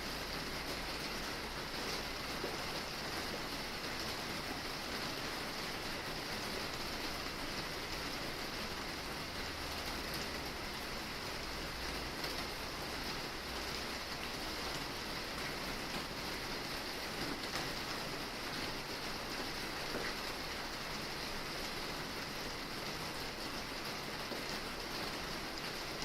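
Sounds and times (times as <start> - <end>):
rain falling on a roof: 0.0 - 26.0.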